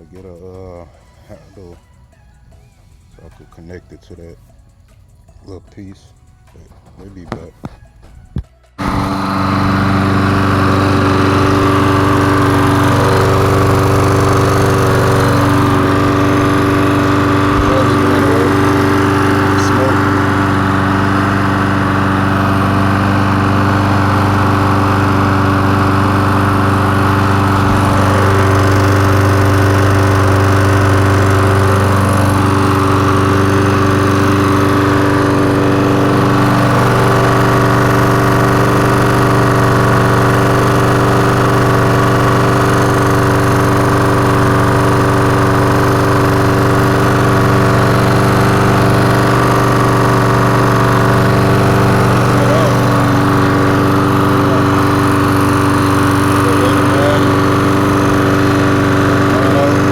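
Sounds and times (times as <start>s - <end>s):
lawn mower engine running: 6.6s - 59.9s.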